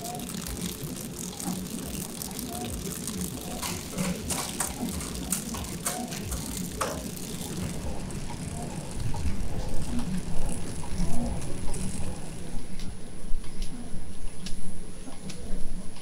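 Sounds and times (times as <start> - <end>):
sharp clicks and ticks: 0.0 - 12.9
wrapping machine whirring: 0.0 - 13.2.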